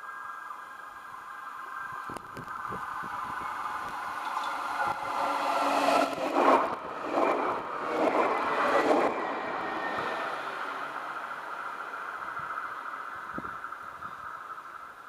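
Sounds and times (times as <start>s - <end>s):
tram wheels on rails: 1.9s - 15.0s.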